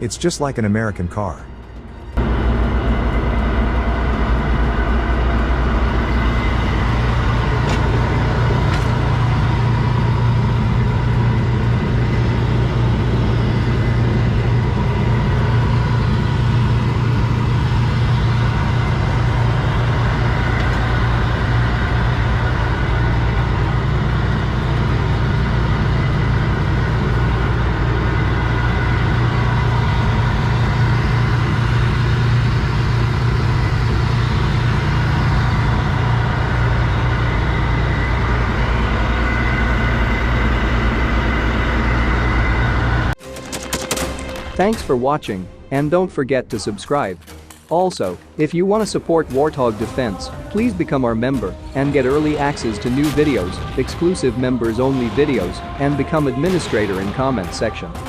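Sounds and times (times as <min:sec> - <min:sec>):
deep droning vehicle engine: 0:00.0 - 0:43.2, 0:49.0 - 0:58.0.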